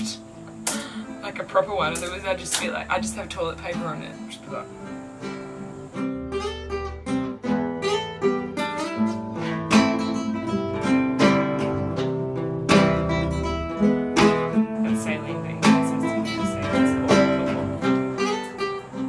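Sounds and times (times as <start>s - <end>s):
acoustic guitar plucking and strumming: 0.0s - 19.0s.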